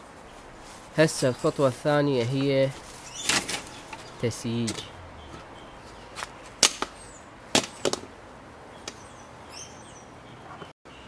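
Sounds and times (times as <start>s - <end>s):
bird chirping: 1.3s - 8.0s, 8.7s - 11.0s.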